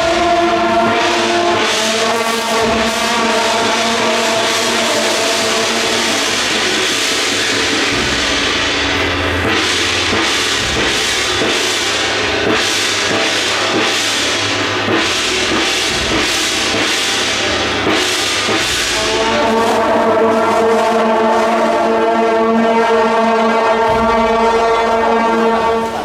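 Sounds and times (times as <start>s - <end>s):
drums beating: 0.0s - 26.0s
gong and cymbal crashes: 0.0s - 26.0s
loud sustained pitched tone: 0.0s - 26.0s.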